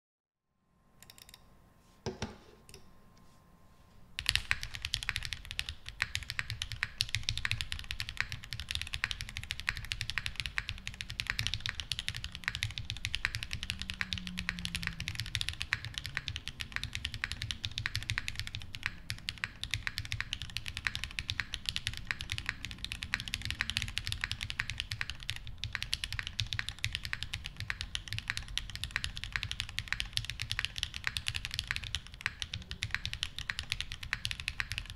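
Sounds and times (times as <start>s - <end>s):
fast mechanical keyboard typing: 4.2s - 34.9s.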